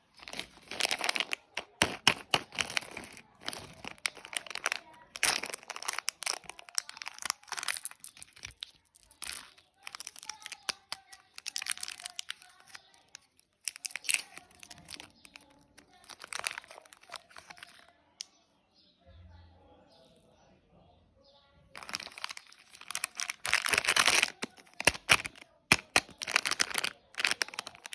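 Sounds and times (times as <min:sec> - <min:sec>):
plastic wrappers crinkling and tearing: 0:00.0 - 0:17.9, 0:21.8 - 0:27.9.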